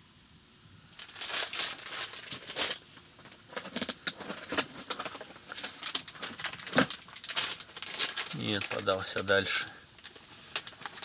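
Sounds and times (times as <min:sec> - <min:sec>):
rustling and crinkling: 0:00.9 - 0:11.0.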